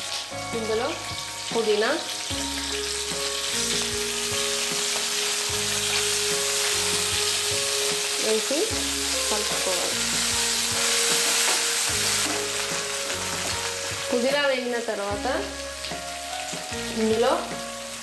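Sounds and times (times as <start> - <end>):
leaves sizzling in hot oil: 0.0 - 18.0.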